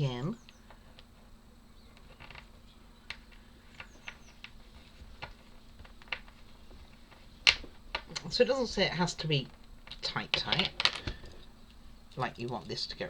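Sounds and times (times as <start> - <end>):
wooden parts clicking and tapping: 0.4 - 12.9.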